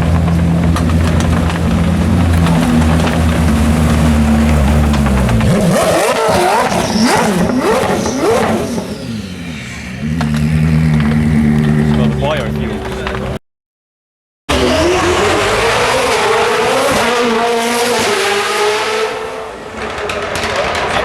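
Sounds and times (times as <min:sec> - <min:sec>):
car engine revving: 0:00.0 - 0:13.4, 0:14.5 - 0:21.0.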